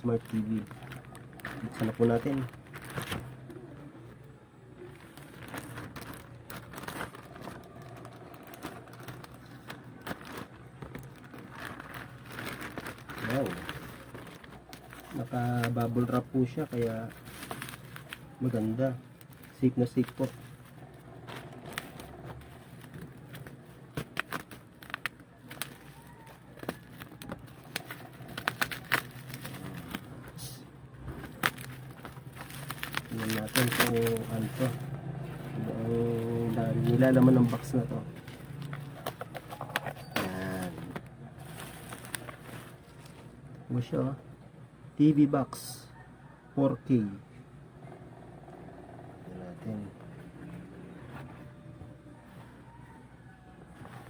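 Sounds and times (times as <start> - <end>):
plastic packaging crinkling: 0.0 - 43.9.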